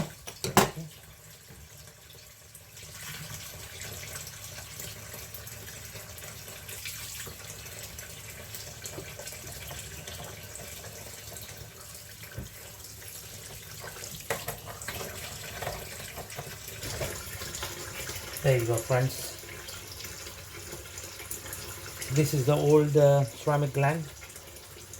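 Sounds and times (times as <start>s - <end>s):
water running from a tap: 0.0s - 24.9s.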